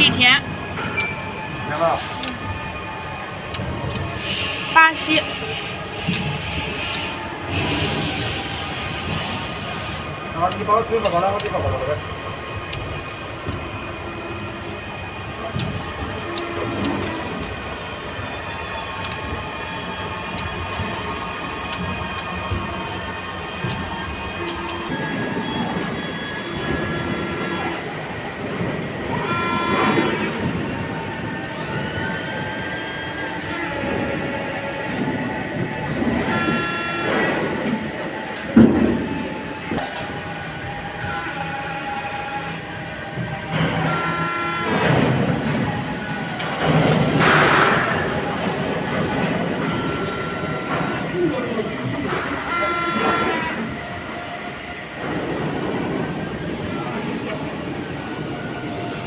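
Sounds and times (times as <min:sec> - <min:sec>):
factory machinery din: 0:00.0 - 0:59.0
high machine whine: 0:00.0 - 0:59.0.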